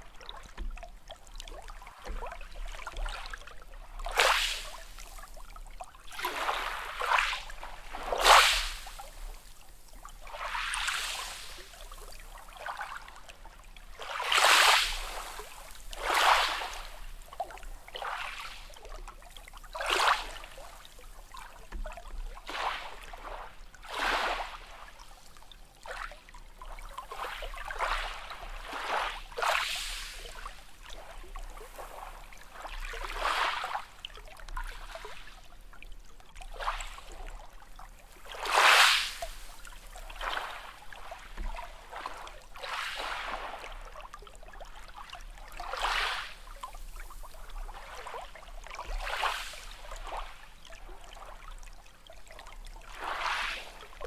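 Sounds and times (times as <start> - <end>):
small sea waves lapping: 0.0 - 54.0.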